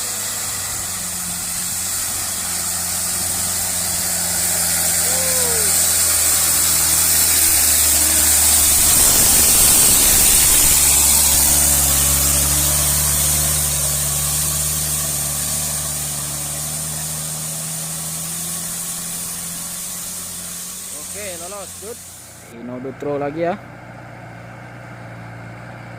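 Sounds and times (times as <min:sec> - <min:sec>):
steady hiss: 0:00.0 - 0:22.5
diesel truck engine pulling uphill: 0:00.0 - 0:25.9.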